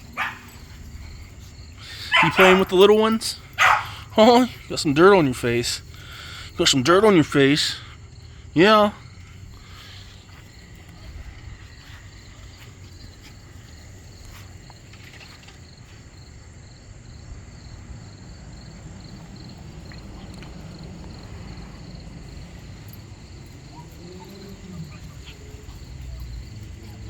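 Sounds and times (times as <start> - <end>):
insect chirping: 0.0 - 27.0.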